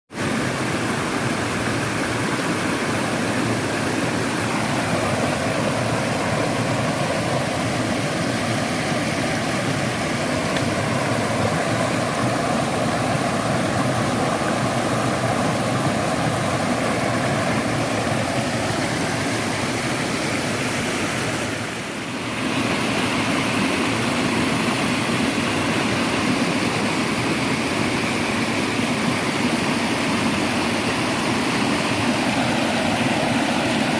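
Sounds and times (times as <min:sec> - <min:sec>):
rushing mountain stream and waterfall: 0:00.1 - 0:33.9.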